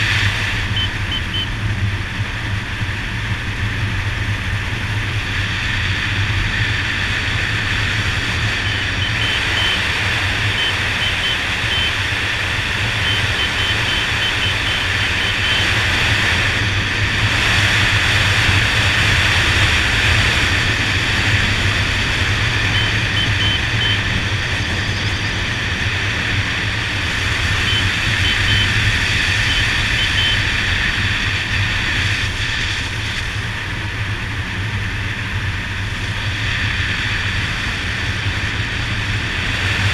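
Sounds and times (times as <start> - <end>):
motorcycle engine hum: 0.0 - 39.9
wind rush over microphone: 0.0 - 39.9.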